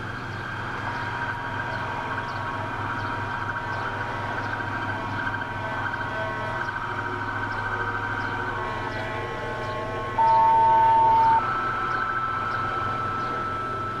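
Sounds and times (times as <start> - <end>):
faint high siren tone: 0.0 - 14.0
road traffic rumble: 0.0 - 14.0.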